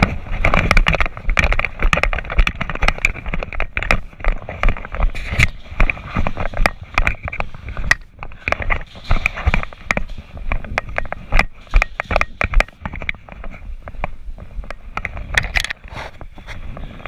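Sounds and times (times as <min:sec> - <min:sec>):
knocks and sharp cracks: 0:00.0 - 0:15.9
gear rattling: 0:00.0 - 0:17.0
wind on microphone: 0:00.0 - 0:17.0.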